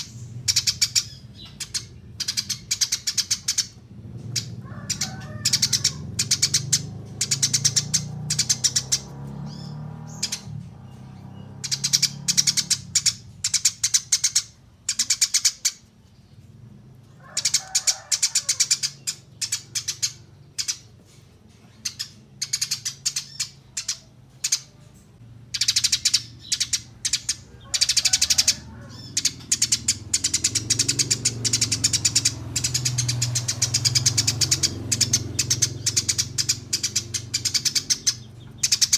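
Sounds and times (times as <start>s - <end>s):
sparrow chirping: 0.0s - 38.9s.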